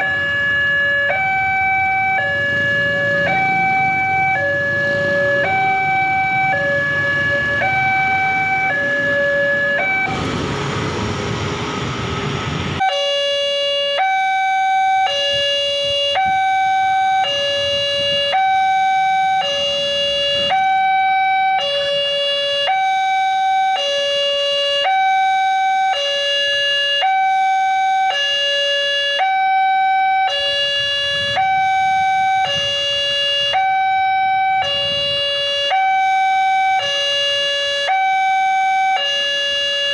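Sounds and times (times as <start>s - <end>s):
level crossing two-tone alarm: 0.0s - 10.2s, 12.8s - 39.9s
road traffic: 0.0s - 39.9s.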